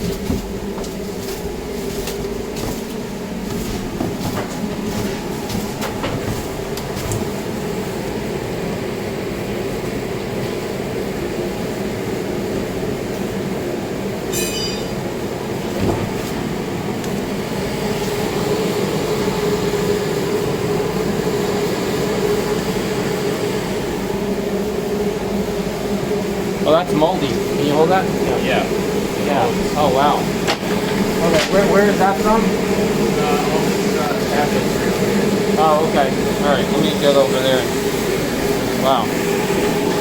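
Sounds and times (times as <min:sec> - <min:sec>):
constant hum: 0:00.0 - 0:40.0
mechanical drone: 0:00.0 - 0:40.0.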